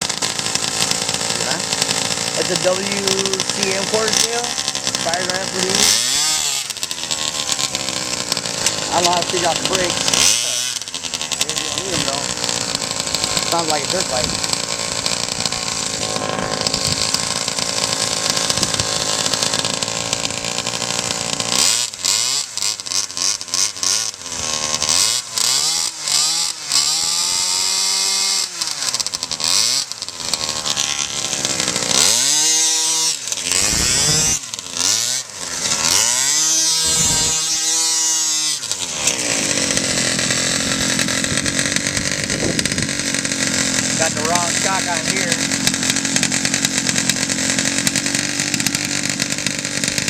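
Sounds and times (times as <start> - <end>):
small two-stroke engine revving: 0.0 - 50.0.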